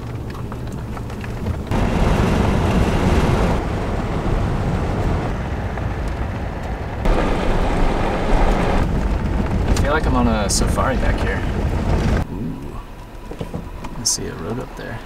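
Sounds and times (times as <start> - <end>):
tyre and road noise: 0.0 - 15.0
wind rumbling on microphone: 0.0 - 15.0.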